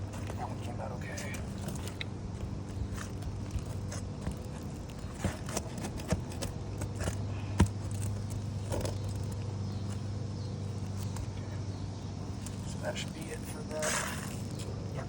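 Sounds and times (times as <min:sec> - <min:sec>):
hand tools tapping and scraping: 0:00.0 - 0:15.0
steady low hum: 0:00.0 - 0:15.0.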